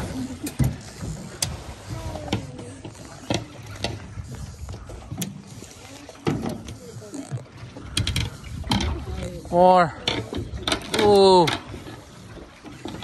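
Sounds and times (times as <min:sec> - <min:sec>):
sea washing: 0:00.0 - 0:13.0.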